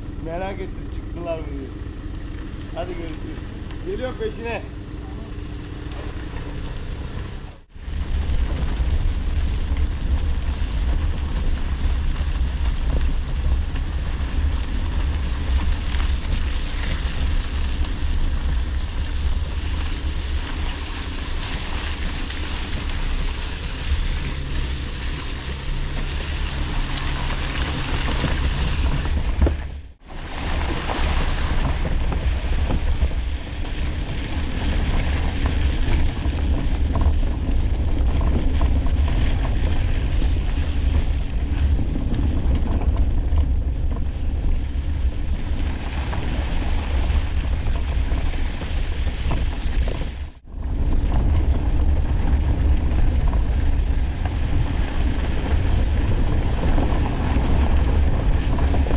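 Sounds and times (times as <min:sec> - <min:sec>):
vehicle engine and road rumble: 0:00.0 - 0:58.9.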